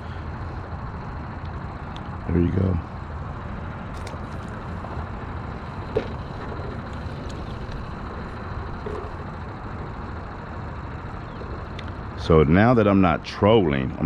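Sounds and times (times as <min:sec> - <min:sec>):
boat motor rumbling: 0:00.0 - 0:14.0.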